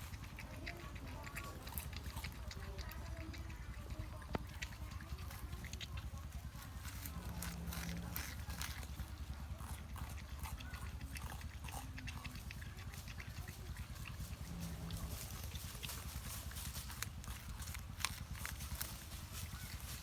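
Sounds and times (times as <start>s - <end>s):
porcupine gnawing bamboo: 0.0s - 20.0s
steady low hum: 0.0s - 20.0s.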